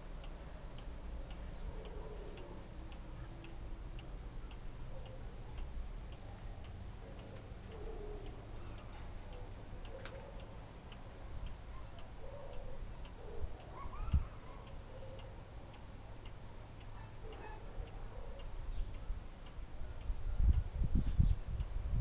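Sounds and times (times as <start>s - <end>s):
pendulum clock ticking: 0.0s - 13.8s, 14.4s - 20.7s.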